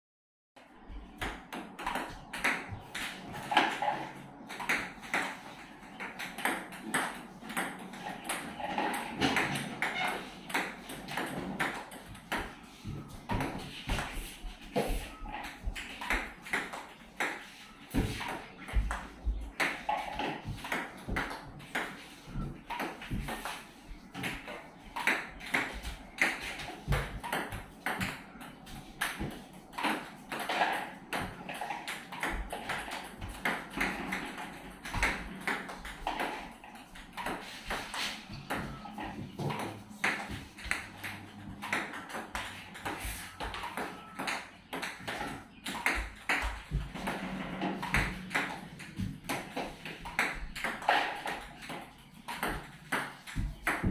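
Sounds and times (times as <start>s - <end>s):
table tennis balls hitting paddles: 0.6s - 53.9s
balls bouncing on table: 0.8s - 53.9s.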